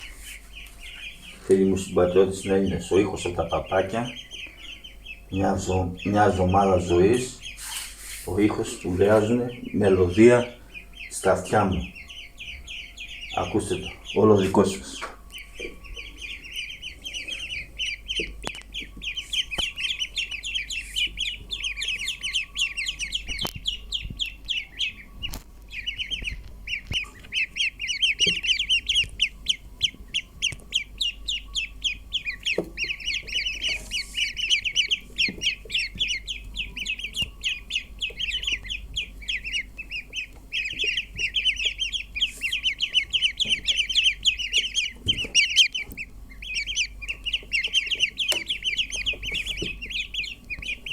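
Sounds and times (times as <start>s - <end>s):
ducklings peeping: 0.0s - 50.9s.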